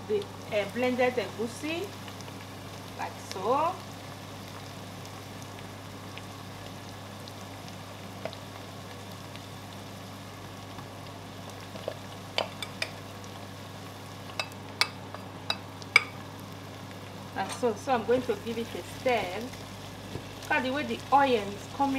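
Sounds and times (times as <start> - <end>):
oil sizzling in a pot: 0.0 - 21.9.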